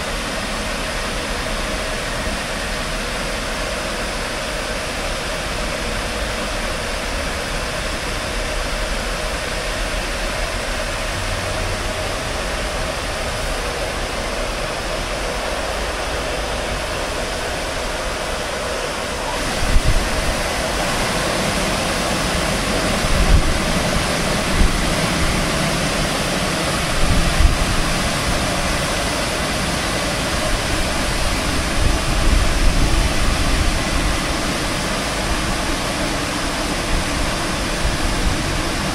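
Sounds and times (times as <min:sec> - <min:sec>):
water spray rushing: 0:00.0 - 0:38.9.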